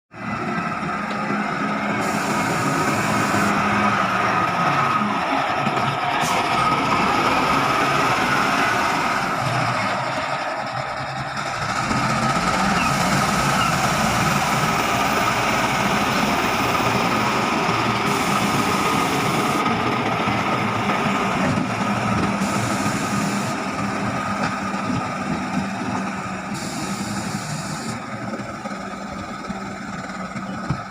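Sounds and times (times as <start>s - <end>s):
constant machine whine: 0.1s - 30.9s
construction machinery engine drone: 0.1s - 30.9s.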